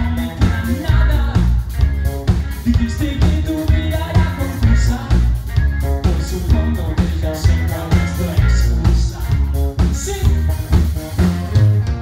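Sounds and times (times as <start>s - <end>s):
man singing: 0.0s - 1.8s, 2.5s - 10.8s, 11.5s - 12.0s
rock band playing: 0.0s - 12.0s.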